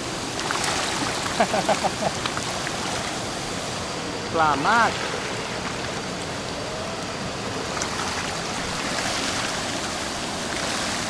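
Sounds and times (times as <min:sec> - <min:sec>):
stream rushing over cascades: 0:00.0 - 0:11.0.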